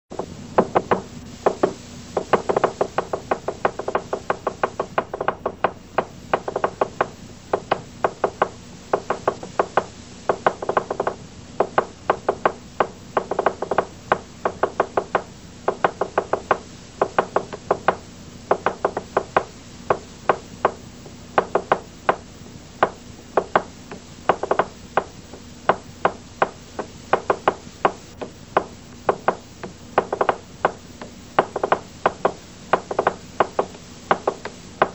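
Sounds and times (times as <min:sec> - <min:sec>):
steady low hum: 0:00.1 - 0:34.9
rapid rhythmic knocking: 0:00.2 - 0:34.9.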